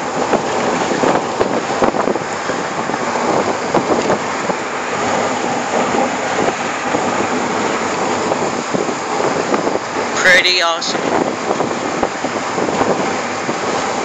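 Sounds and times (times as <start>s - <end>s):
rushing road noise: 0.0s - 14.0s
wind buffeting microphone: 0.0s - 14.0s.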